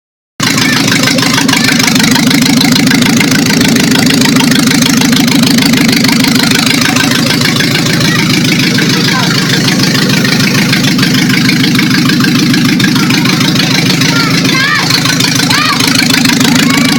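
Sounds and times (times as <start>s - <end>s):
car engine idling: 0.4s - 16.9s.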